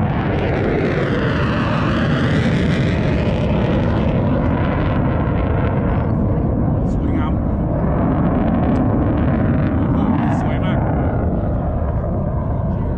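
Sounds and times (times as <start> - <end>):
airplane flying low past: 0.0 - 12.9.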